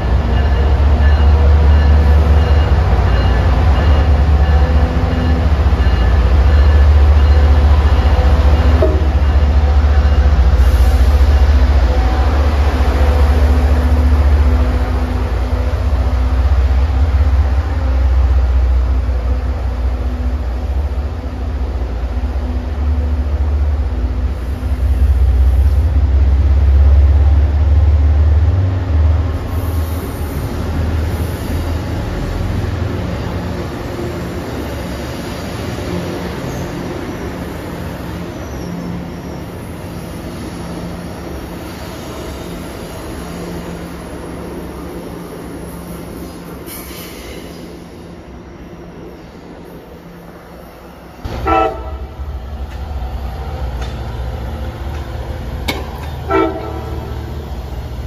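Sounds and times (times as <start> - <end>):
diesel locomotive engine rumble: 0.0 - 58.0.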